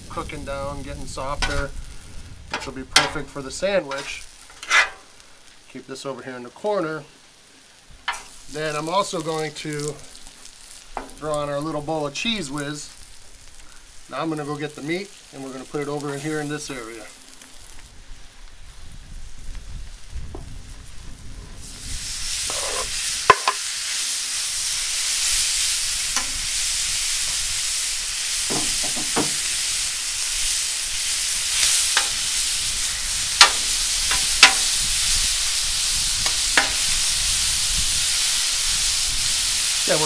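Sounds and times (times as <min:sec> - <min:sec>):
meat sizzling on a griddle: 0:00.0 - 0:40.0.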